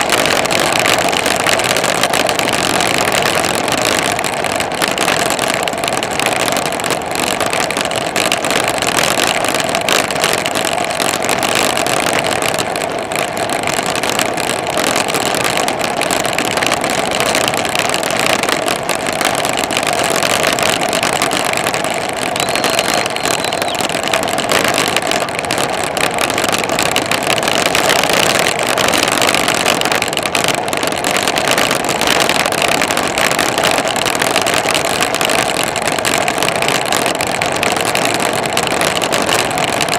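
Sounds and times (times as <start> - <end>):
road noise: 0.0 - 39.9
wind rushing over camera: 0.0 - 39.9.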